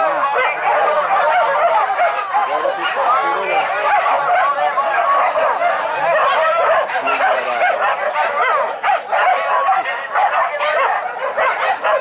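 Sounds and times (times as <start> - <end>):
dogs yelping and barking: 0.0 - 12.0.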